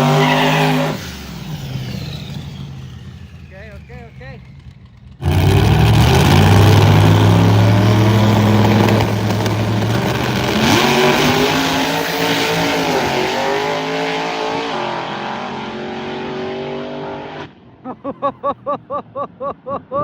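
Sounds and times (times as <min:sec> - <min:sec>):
drag race car engine at full throttle: 0:00.0 - 0:17.8.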